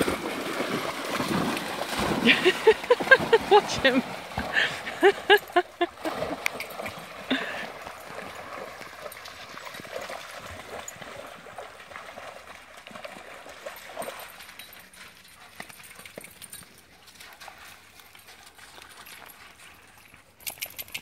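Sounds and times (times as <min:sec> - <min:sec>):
dogs splashing through water: 0:00.0 - 0:21.0.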